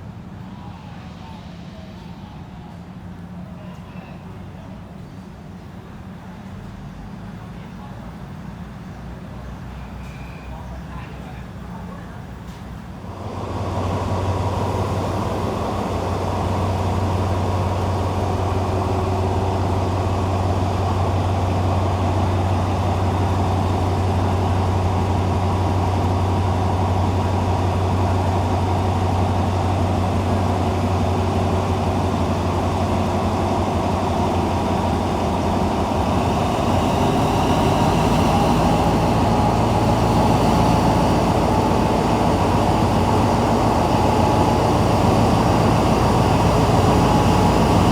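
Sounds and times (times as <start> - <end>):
diesel train engine droning: 0.0 - 47.9.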